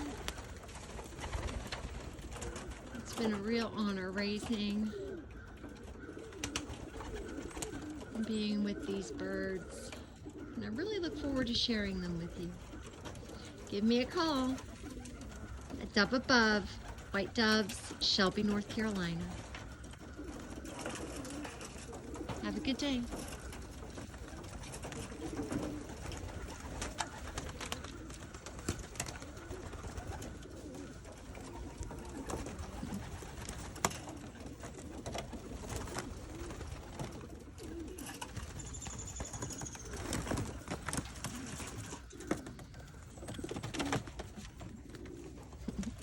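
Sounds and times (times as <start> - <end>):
doves cooing: 0.0 - 46.0.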